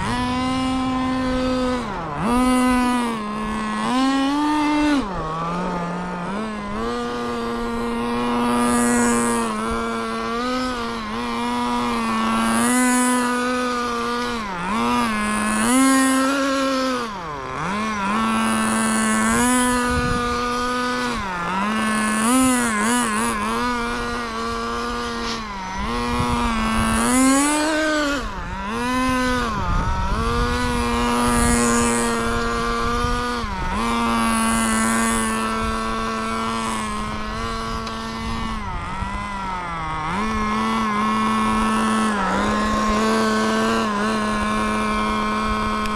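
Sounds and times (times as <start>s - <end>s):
rc car engine revving: 0.0s - 45.9s.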